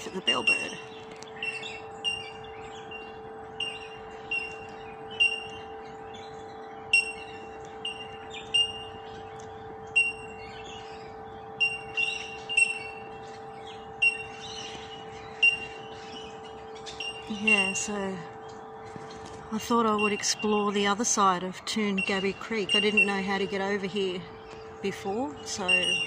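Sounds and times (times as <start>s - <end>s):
birds ringing tink calls: 0.0s - 26.0s.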